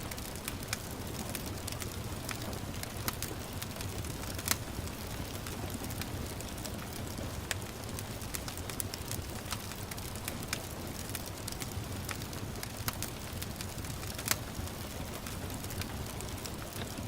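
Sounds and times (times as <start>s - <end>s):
gentle rain hiss: 0.0s - 17.0s
wood fire crackling: 0.0s - 17.0s.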